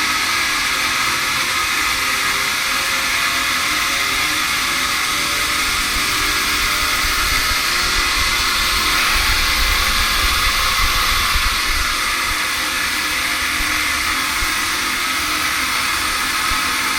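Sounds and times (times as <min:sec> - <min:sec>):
air compressor hissing: 0:00.0 - 0:16.9.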